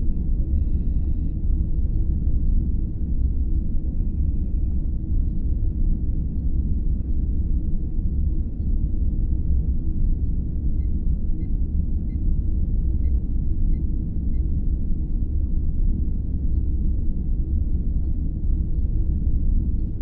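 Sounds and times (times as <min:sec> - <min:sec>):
deep rumbling hum: 0:00.0 - 0:20.0.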